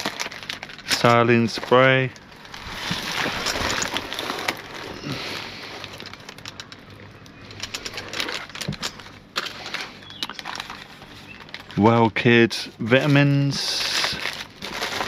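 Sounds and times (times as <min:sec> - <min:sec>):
plastic packaging crinkling: 0:00.0 - 0:12.3, 0:12.9 - 0:15.0.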